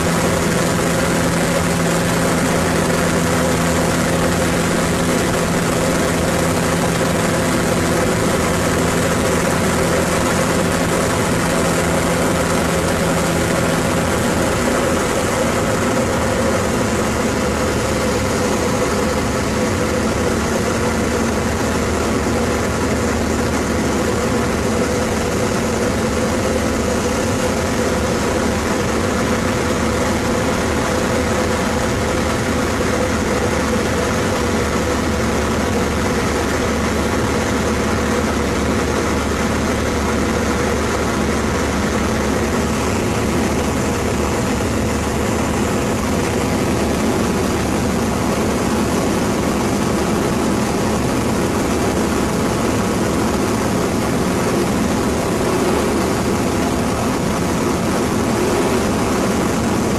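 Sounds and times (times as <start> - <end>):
plane engine and propeller droning: 0.0 - 59.9.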